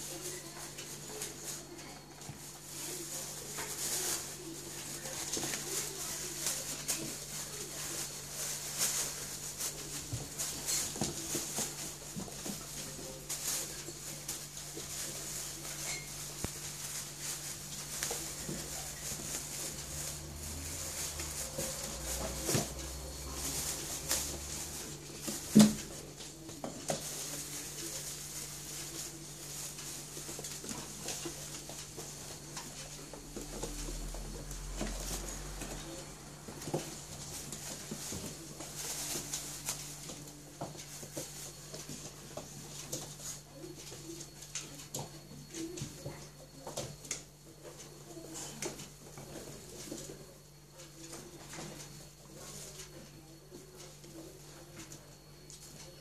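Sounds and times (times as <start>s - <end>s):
plastic bag rustling: 0.0s - 46.7s
puppy paws pattering and clicking: 0.0s - 56.0s.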